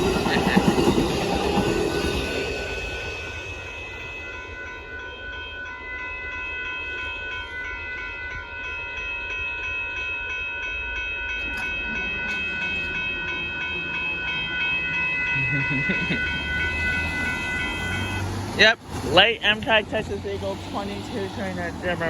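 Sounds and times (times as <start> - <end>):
train wheels rumbling on rail: 0.0 - 7.6, 11.2 - 22.0
crossing bell ringing: 0.0 - 22.0.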